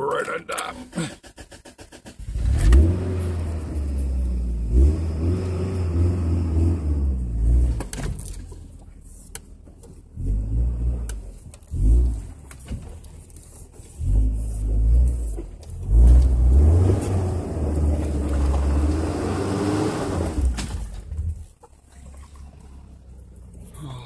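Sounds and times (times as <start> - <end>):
off-road vehicle engine revving: 1.0 - 8.4, 10.0 - 13.0, 13.7 - 24.0.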